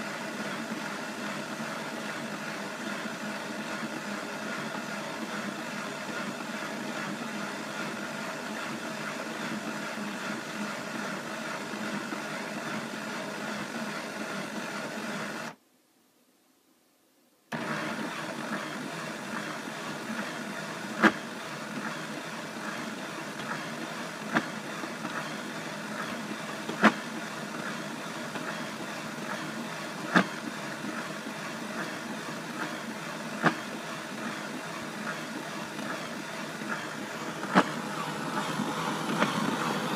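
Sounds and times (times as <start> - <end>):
spot cleaner motor hum: 0.0 - 15.6, 17.5 - 39.9.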